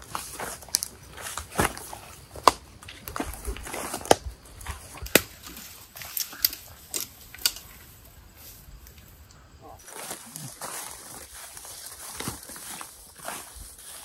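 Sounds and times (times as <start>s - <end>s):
footsteps crunching on trail: 0.0s - 9.2s, 9.8s - 14.0s.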